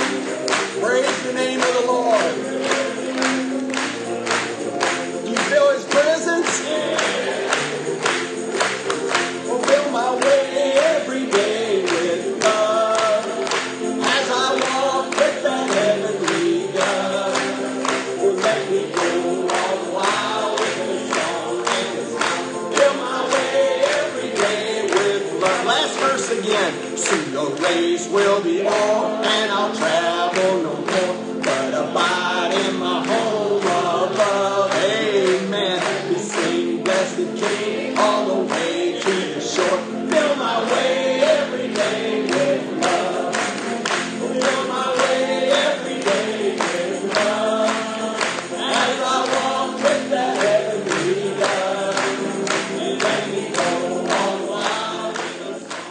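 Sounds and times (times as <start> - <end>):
group singing gospel song: 0.0 - 55.9.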